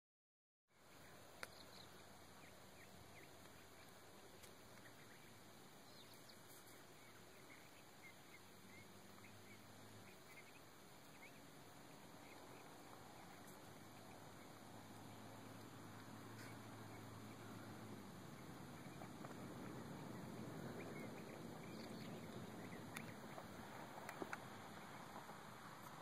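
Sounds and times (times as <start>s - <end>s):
faint outdoor hiss: 0.7s - 26.0s.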